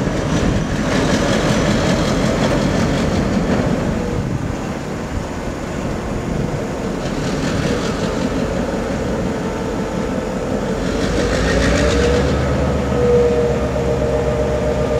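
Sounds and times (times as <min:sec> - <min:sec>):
diesel locomotive engine rumble: 0:00.0 - 0:14.9.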